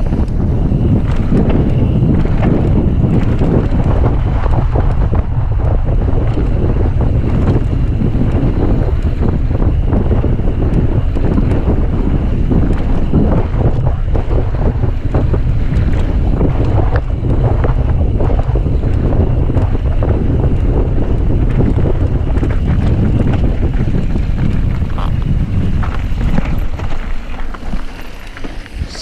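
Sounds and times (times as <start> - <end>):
bike knocks and rattles: 0.0 - 29.0
bike tyre rumble: 0.0 - 29.0
wind buffeting microphone: 0.0 - 29.0.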